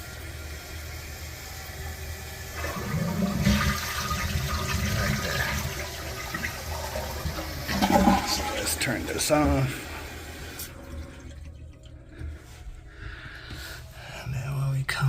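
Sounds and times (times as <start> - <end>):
toilet water rushing: 0.0 - 12.6.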